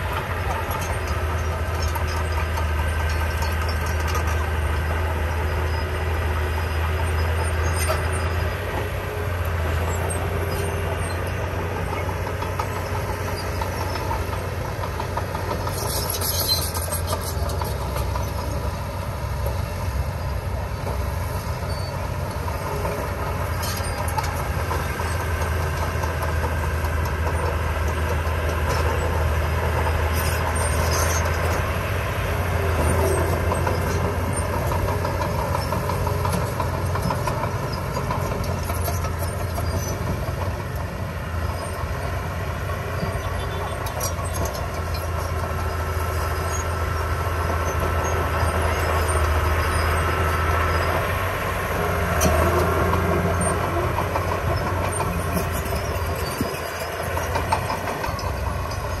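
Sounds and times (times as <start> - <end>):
heavy diesel machinery engine running: 0.0 - 59.0.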